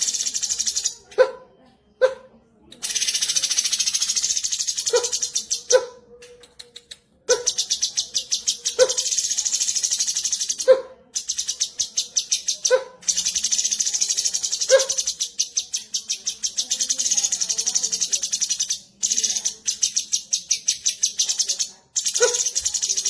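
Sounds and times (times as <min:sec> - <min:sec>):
bird chattering trill: 0:00.0 - 0:01.2, 0:02.8 - 0:05.9, 0:07.3 - 0:23.0.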